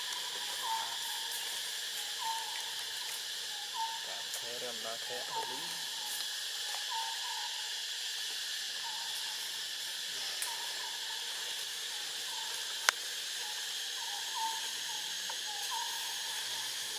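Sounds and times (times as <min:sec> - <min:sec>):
insects hissing: 0:00.0 - 0:16.9.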